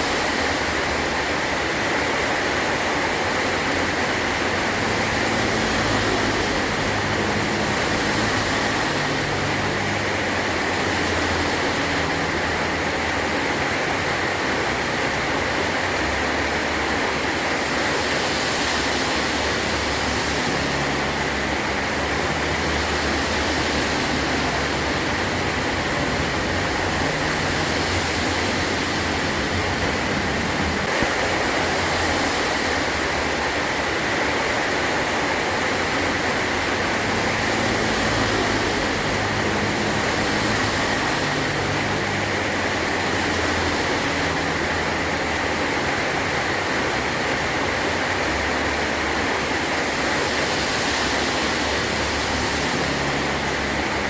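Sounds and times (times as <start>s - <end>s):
heavy rain on a metal roof: 0.0s - 54.0s.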